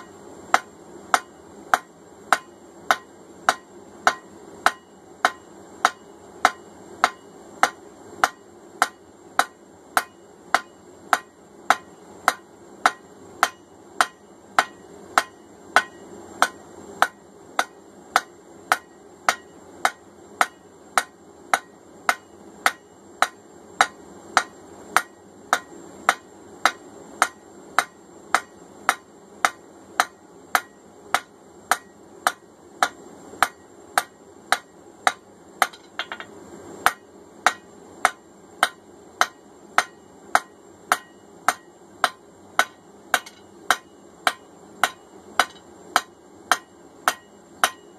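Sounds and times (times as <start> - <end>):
faint steady hum: 0.0 - 47.9
hammer striking steel on anvil: 0.0 - 47.9.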